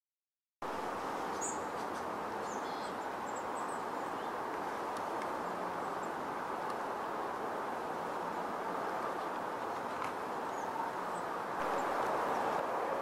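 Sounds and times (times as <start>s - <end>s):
outdoor background noise: 0.6s - 13.0s.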